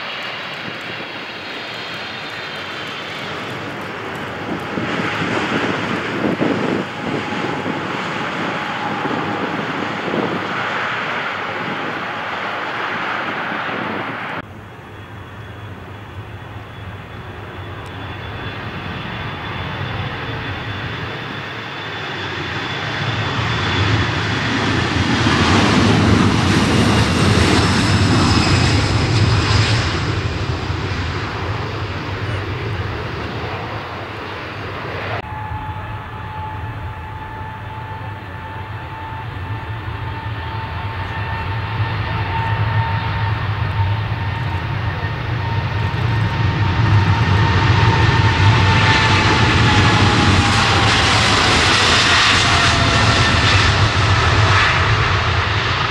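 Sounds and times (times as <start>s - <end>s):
jet engines at takeoff power: 0.0s - 55.9s
jet engines whining on runway: 0.0s - 55.9s.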